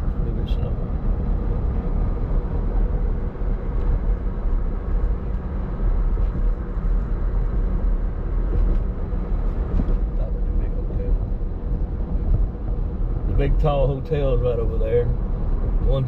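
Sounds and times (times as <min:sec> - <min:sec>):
road and engine rumble in vehicle: 0:00.0 - 0:16.0.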